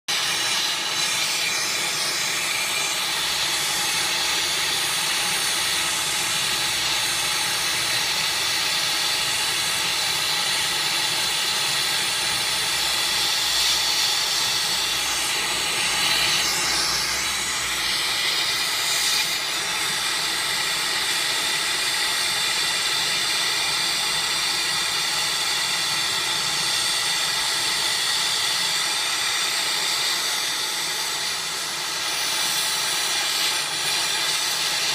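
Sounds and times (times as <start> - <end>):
torch flame hissing: 0.1 - 34.9.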